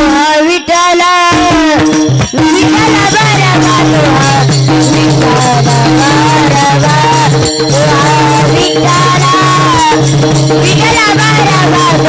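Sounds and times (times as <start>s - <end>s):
jingling hand percussion: 0.0s - 12.0s
person singing devotional melody: 0.0s - 12.0s.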